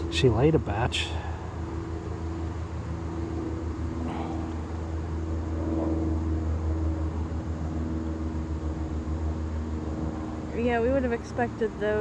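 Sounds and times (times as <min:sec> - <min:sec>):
honeybees buzzing: 0:00.0 - 0:12.0
steady low rumble: 0:00.0 - 0:12.0.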